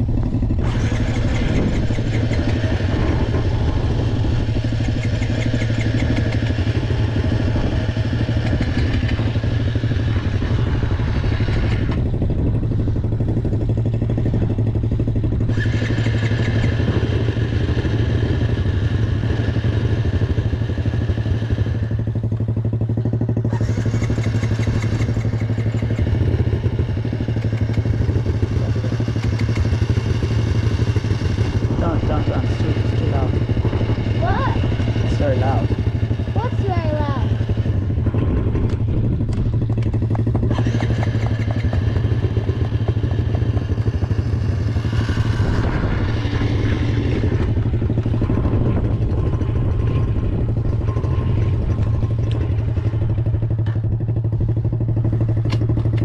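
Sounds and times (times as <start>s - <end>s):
dirt bike engine idling: 0.0s - 56.0s.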